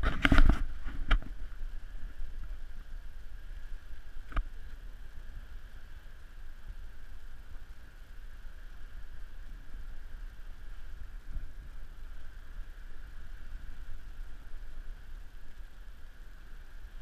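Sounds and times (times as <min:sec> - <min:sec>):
faint high hiss: 0:00.0 - 0:17.0
wind rumbling on microphone: 0:00.0 - 0:17.0.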